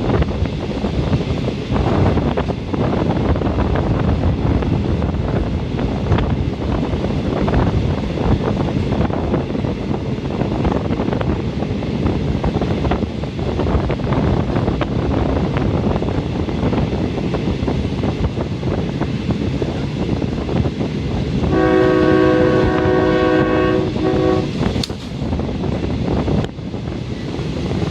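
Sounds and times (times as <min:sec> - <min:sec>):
train running gear rumble: 0:00.0 - 0:27.9
wind rushing over microphone: 0:00.0 - 0:27.9.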